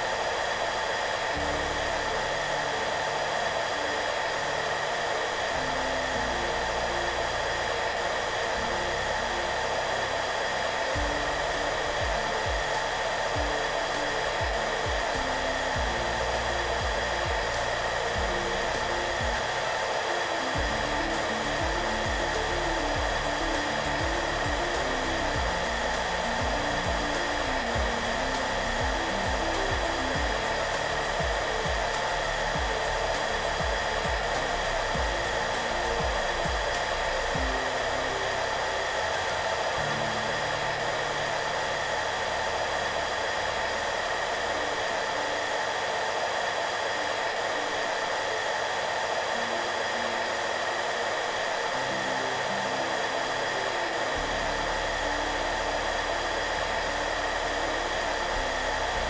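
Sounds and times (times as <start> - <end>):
hairdryer blowing: 0.0 - 59.0
soft background music: 0.0 - 59.0.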